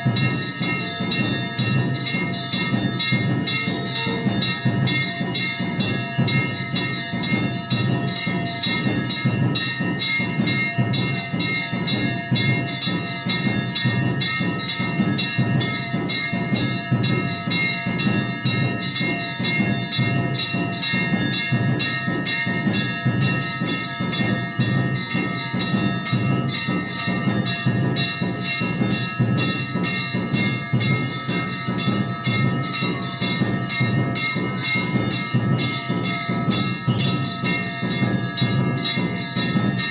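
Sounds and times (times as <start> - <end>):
bells ringing rapidly: 0.0 - 39.9.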